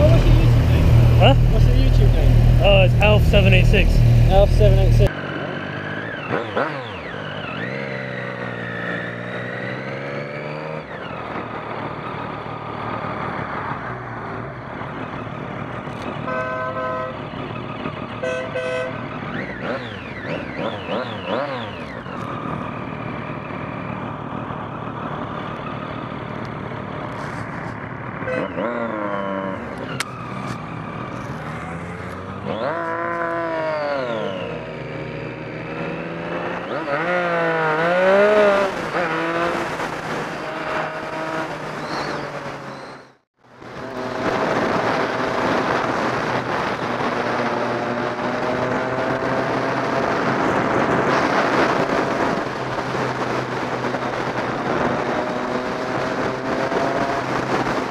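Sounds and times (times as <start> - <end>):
vehicle engine revving: 0.0 - 14.2, 18.1 - 25.6, 27.1 - 57.9.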